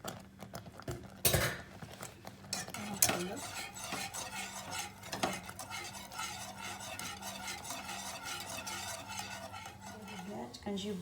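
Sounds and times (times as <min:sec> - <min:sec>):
spoon scraping a pot: 0:02.0 - 0:11.0.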